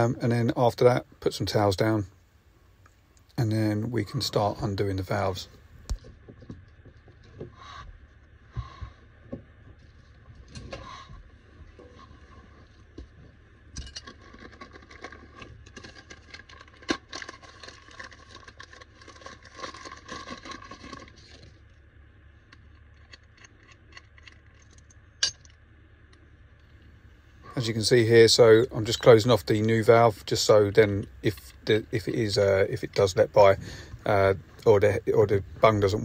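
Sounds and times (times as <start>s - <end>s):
crackling and rustling: 2.7s - 36.0s.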